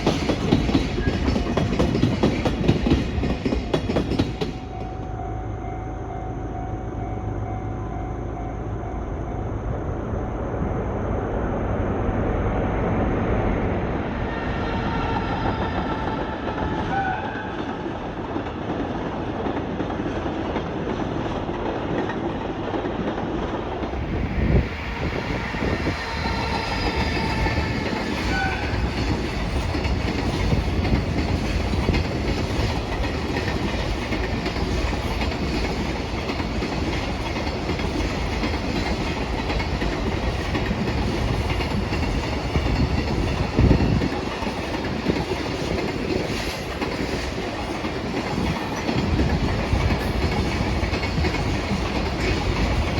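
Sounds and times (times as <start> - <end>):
train rumbling past: 0.0 - 52.9.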